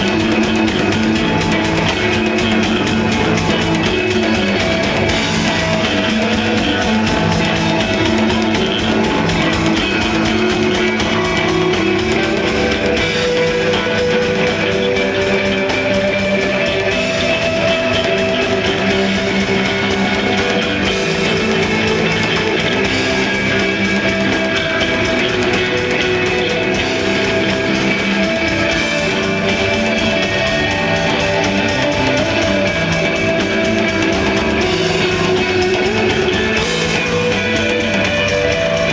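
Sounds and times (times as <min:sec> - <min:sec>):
electric guitar: 0:00.0 - 0:38.9
rock band playing live: 0:00.0 - 0:38.9.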